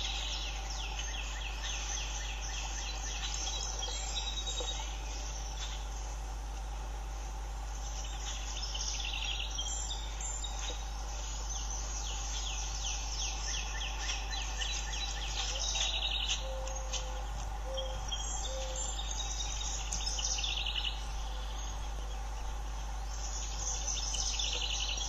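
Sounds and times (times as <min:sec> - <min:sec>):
songbirds singing: 0:00.0 - 0:25.0
steady low hum: 0:00.0 - 0:25.0.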